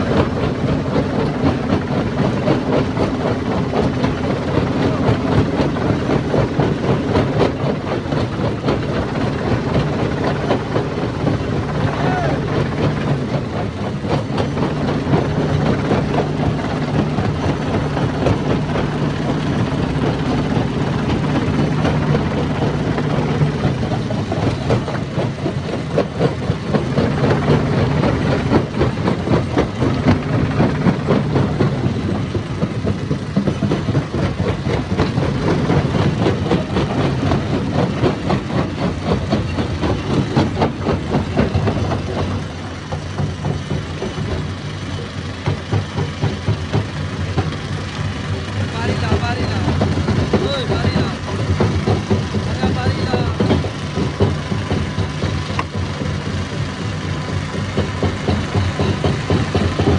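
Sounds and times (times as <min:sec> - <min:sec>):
heavy engine hum: 0:00.0 - 0:59.9.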